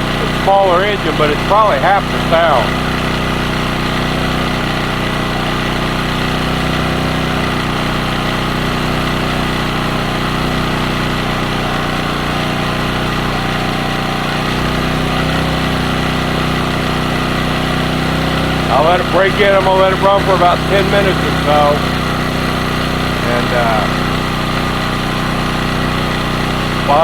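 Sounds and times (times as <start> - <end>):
generator engine running: 0.0 - 27.0.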